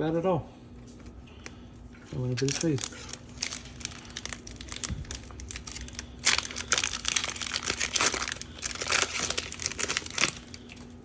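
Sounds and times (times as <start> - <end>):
faint steady hum: 0.0 - 11.0
thin plastic crinkling: 1.3 - 11.0.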